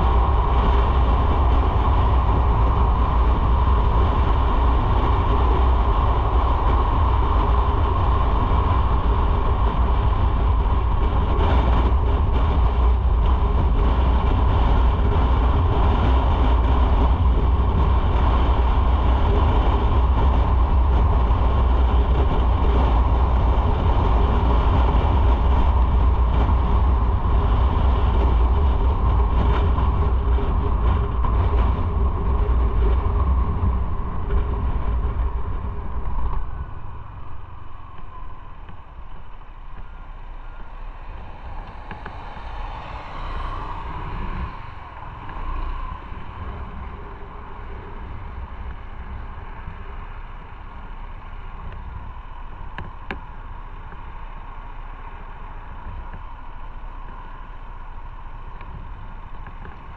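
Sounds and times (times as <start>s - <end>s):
motorcycle engine and road noise: 0.0s - 59.9s.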